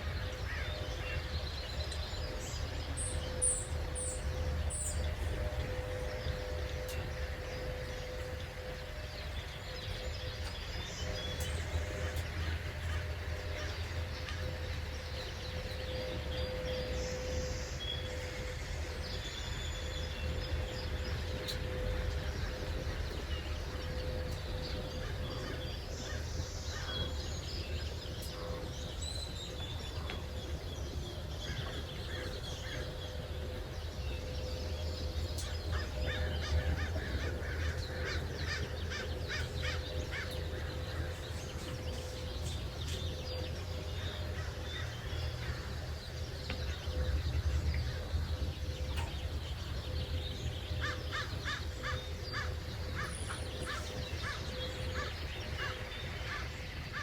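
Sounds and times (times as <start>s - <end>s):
birds chirping and calling: 0.0s - 57.0s
faint hum: 0.0s - 57.0s
steady low rumble: 0.0s - 57.0s.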